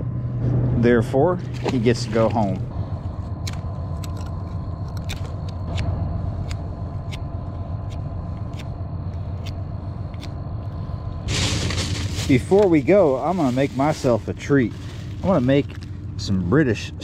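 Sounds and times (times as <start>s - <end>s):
steady low drone: 0.0s - 17.0s.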